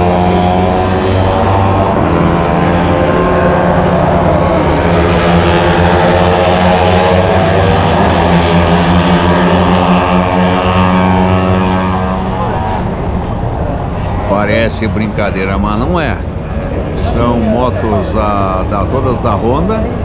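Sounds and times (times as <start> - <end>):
racing motorcycles passing: 0.0 - 20.0.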